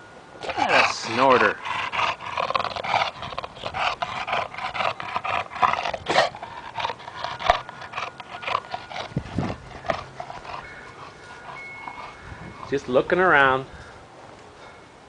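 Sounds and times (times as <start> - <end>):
dog panting and snorting: 0.4 - 13.3.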